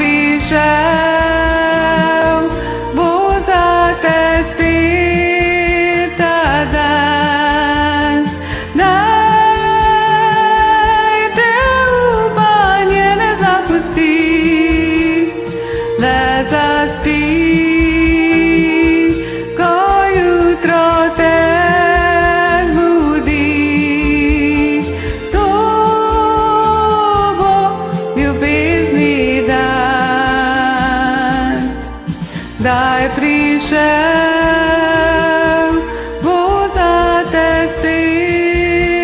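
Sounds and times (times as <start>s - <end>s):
karaoke pop backing track: 0.0s - 39.0s
woman singing with vibrato: 0.0s - 39.0s.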